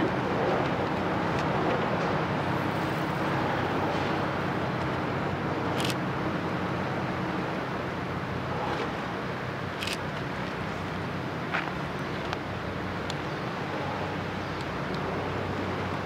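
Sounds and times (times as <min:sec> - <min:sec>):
boat engines droning: 0:00.0 - 0:16.0.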